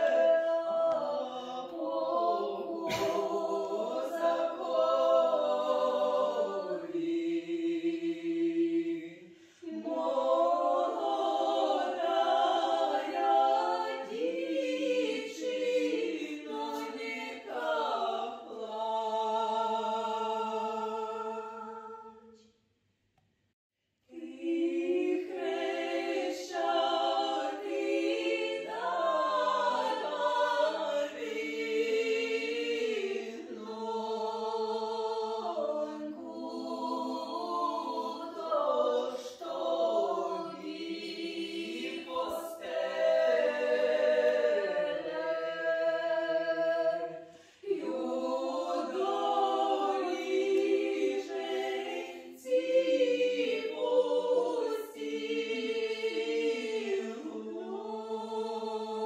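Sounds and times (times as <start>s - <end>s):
women singing a cappella: 0.0s - 22.5s, 24.1s - 59.0s.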